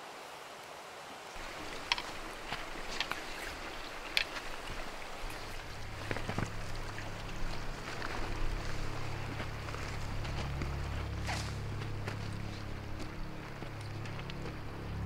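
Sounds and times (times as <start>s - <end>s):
clothing and gear rustling: 1.4s - 14.7s
footsteps: 1.4s - 15.0s
low steady hum: 1.4s - 15.0s.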